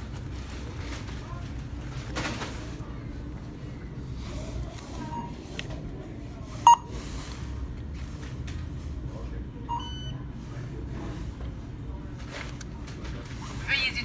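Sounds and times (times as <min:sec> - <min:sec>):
checkout kiosk beeping: 0:00.0 - 0:14.0
low store hum: 0:00.0 - 0:14.0.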